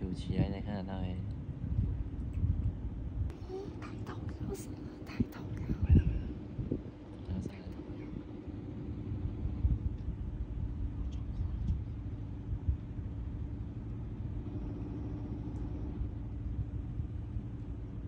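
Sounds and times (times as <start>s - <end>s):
motor running with low rumble: 0.0s - 18.0s.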